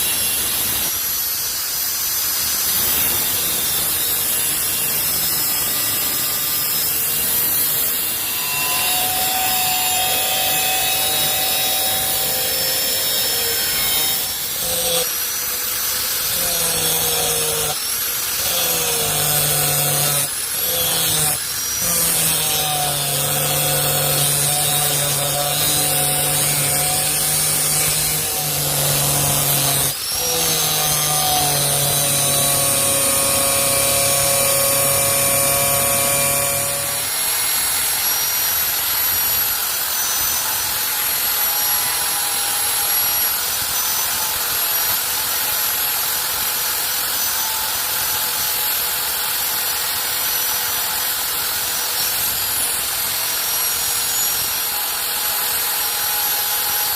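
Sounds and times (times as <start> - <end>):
power tool grinding steel: 0.0 - 56.9.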